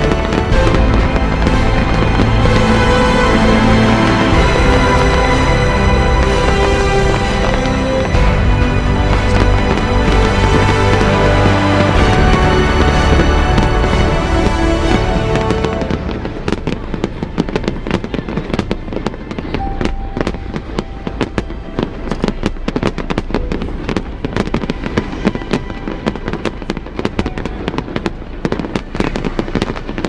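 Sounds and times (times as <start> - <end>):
fireworks bangs and crackles: 0.0 - 30.0
music: 0.0 - 30.0.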